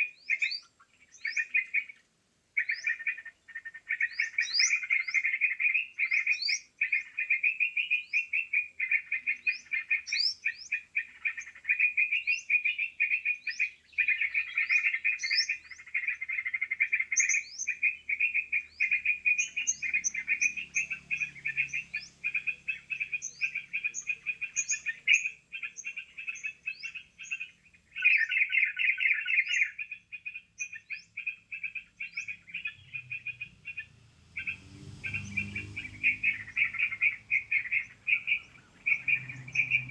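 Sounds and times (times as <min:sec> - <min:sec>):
bulbuls chattering: 0:02.6 - 0:39.9.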